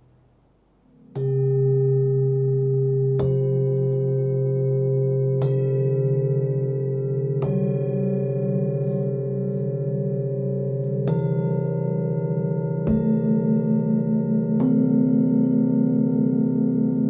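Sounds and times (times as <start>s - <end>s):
metal singing bowls ringing: 1.0s - 17.0s.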